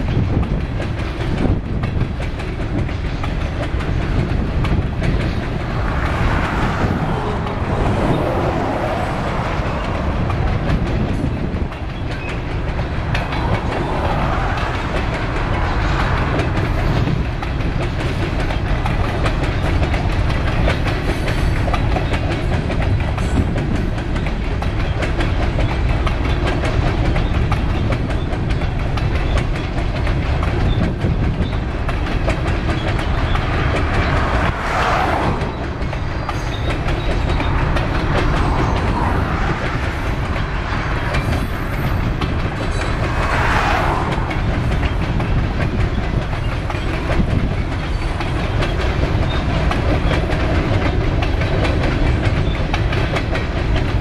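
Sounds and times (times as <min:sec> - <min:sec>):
train wheels clickety-clack: 0:00.0 - 0:54.0.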